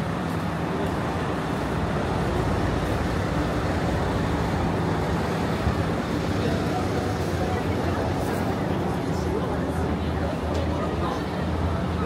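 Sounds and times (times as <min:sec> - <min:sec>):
low engine hum: 0:00.0 - 0:12.0
road traffic noise: 0:00.0 - 0:12.0.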